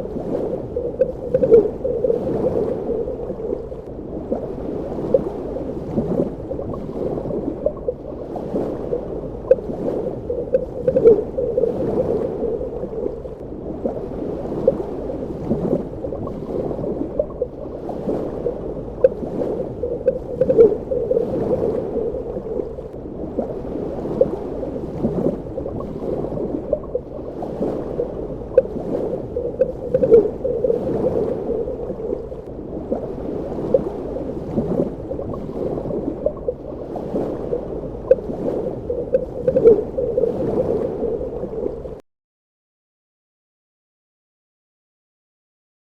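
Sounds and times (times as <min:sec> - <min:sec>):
bubbles gurgling and popping: 0:00.0 - 0:42.0
muffled underwater water rush: 0:00.0 - 0:42.0.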